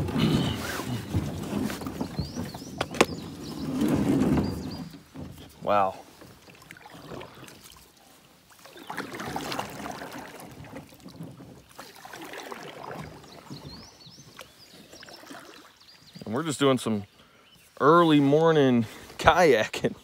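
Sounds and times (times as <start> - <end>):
kayak paddle strokes in water: 0.0 - 16.5
water splashing and dripping: 0.0 - 17.0.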